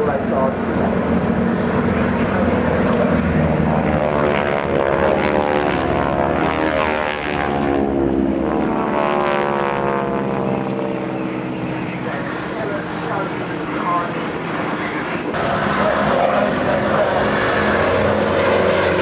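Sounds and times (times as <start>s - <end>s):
propeller aircraft flying past: 0.0s - 19.0s.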